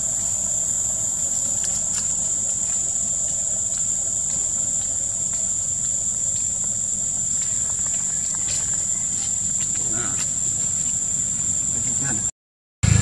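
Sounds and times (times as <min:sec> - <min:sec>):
insects buzzing: 0:00.0 - 0:12.3.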